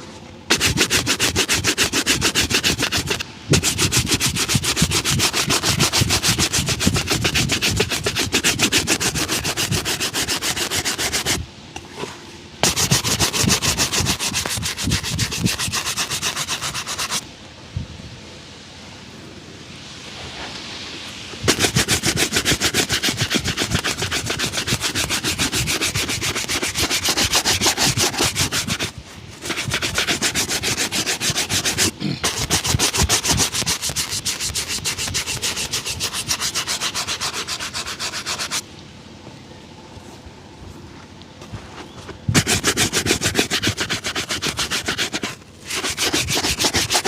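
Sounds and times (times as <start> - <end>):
soft rubbing: 0.0 - 17.3, 19.8 - 38.6, 40.0 - 47.0
shoe being buffed by hand: 0.5 - 17.2, 21.5 - 38.6, 42.0 - 47.0.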